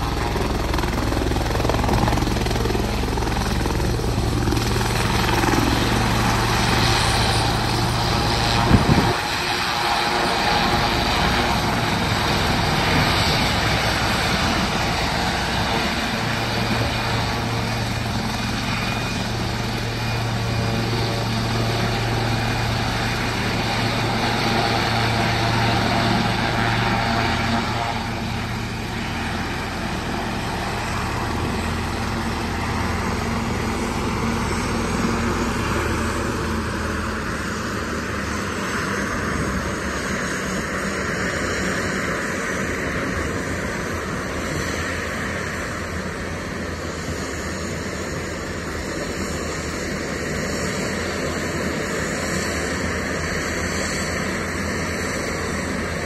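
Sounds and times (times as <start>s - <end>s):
helicopter turbine and rotor noise: 0.0s - 56.0s.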